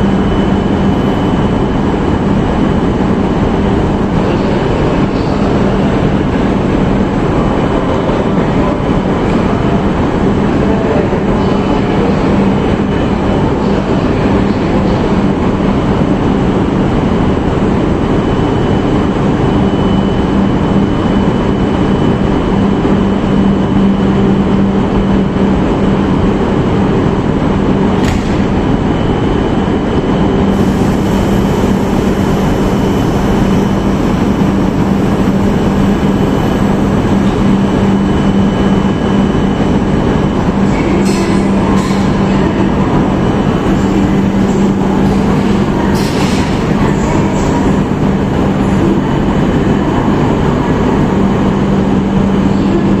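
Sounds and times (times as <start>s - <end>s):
train equipment humming: 0.0s - 53.0s.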